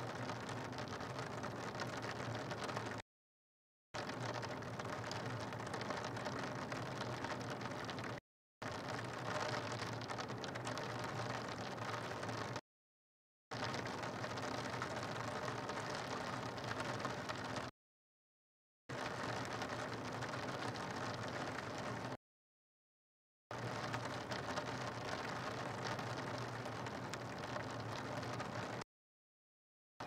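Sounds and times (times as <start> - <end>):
steady rain on rooftop ledges: 0.0 - 3.0, 4.0 - 12.6, 13.6 - 17.7, 18.9 - 22.2, 23.5 - 28.8.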